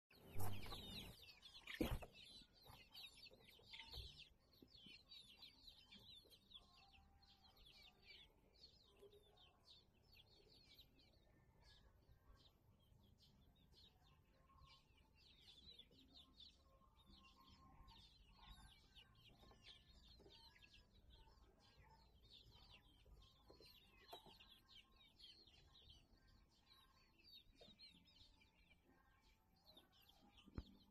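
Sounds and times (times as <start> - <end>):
chicks peeping: 0.1 - 30.9.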